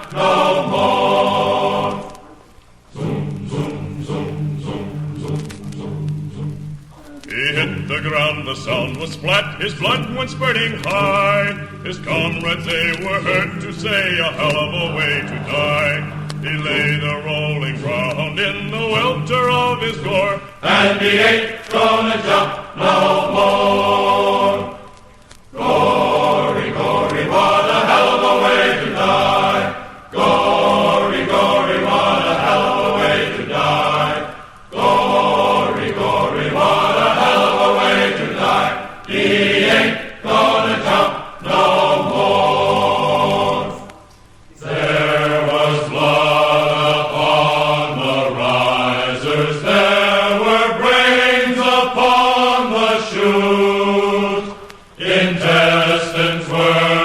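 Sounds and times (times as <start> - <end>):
choir singing chant-like melody: 0.0 - 57.0.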